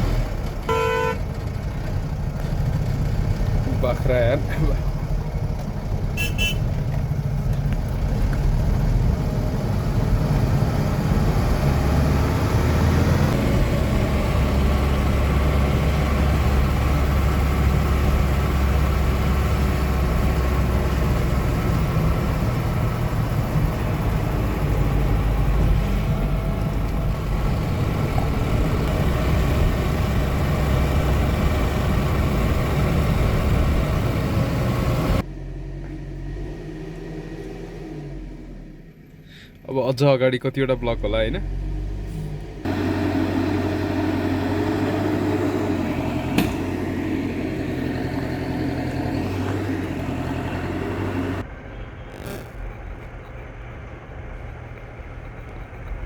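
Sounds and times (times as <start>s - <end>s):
vehicle engine running: 0.0s - 37.0s, 40.8s - 56.0s
road rumble: 0.0s - 56.0s.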